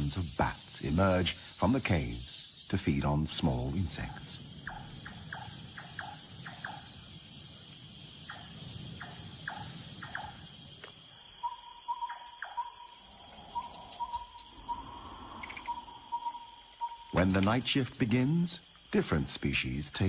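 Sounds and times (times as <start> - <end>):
insect chorus high drone: 0.0 - 20.0
pulsing insect call: 0.0 - 20.0.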